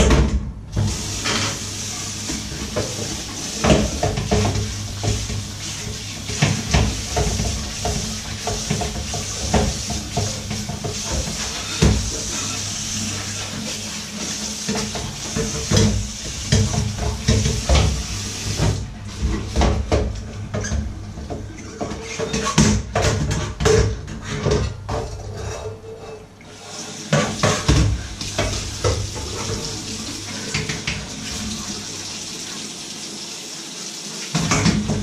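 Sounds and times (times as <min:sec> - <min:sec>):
tap water running: 0:00.0 - 0:35.0.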